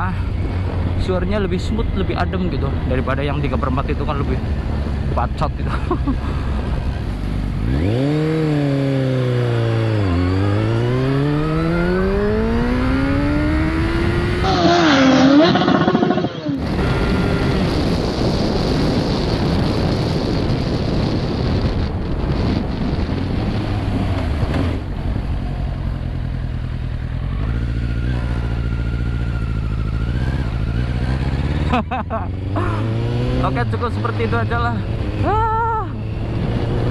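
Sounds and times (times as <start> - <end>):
motorcycle engine accelerating: 0.0 - 36.9
wind and road noise: 0.0 - 36.9.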